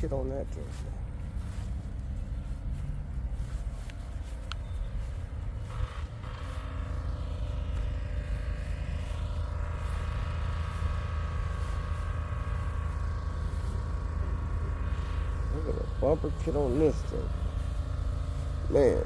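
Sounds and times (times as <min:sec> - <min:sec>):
steady higher hum: 0:00.0 - 0:19.0
vehicle engine rumbling: 0:00.0 - 0:19.0.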